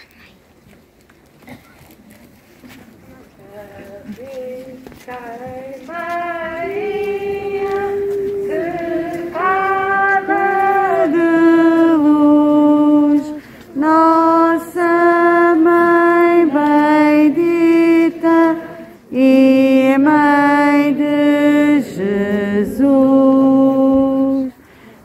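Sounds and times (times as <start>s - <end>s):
women singing a slow hymn: 3.4s - 24.8s.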